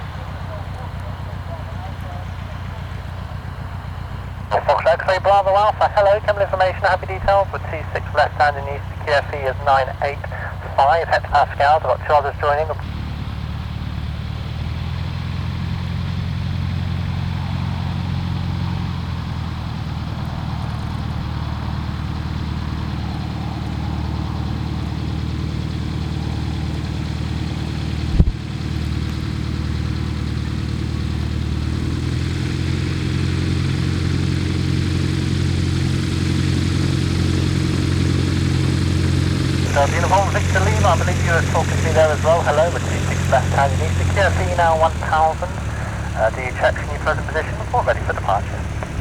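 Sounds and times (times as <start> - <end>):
light aircraft engine running: 0.0 - 49.0.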